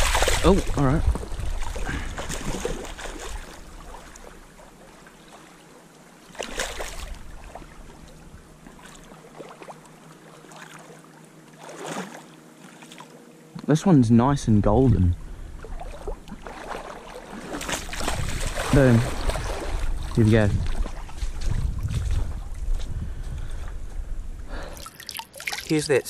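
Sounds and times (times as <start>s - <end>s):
splashing in shallow water: 0.0s - 13.2s, 15.6s - 22.7s, 24.6s - 26.0s.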